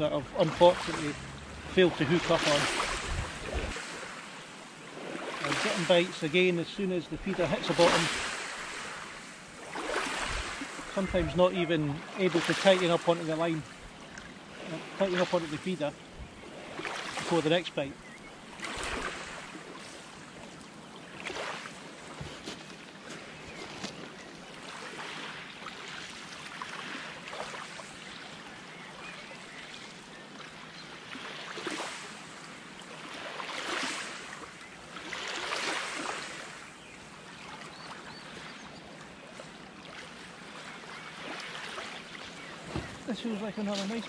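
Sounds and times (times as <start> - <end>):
small waves lapping: 0.0 - 44.0.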